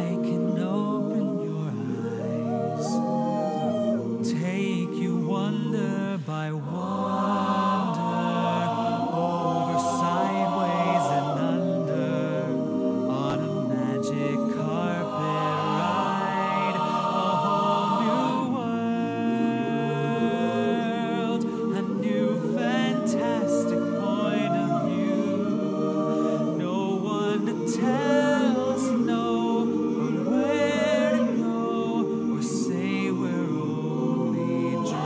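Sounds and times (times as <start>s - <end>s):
choir-like slow singing: 0.0s - 35.0s.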